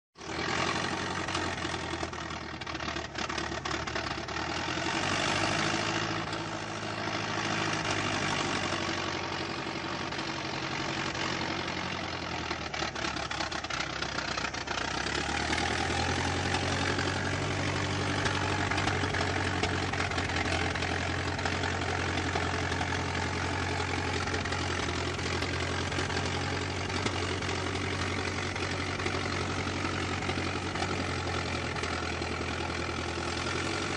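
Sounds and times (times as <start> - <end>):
old car engine running: 0.2 - 33.9.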